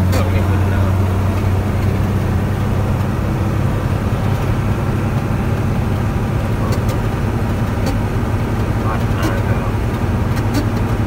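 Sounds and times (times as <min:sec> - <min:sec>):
road noise: 0:00.0 - 0:11.0
truck engine droning: 0:00.0 - 0:11.0.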